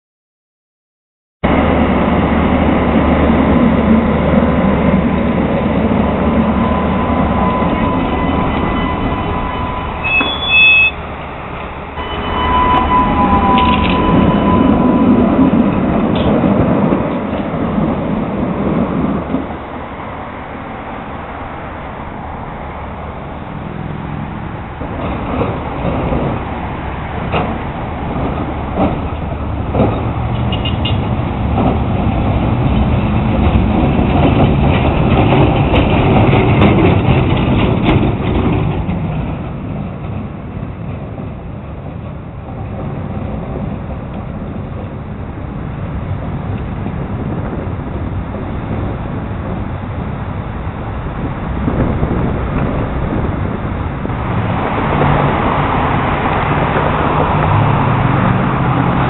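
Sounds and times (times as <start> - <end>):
streetcar rumbling on rails: 1.4 - 59.0
streetcar wheels clicking over track: 2.4 - 19.9, 24.4 - 59.0.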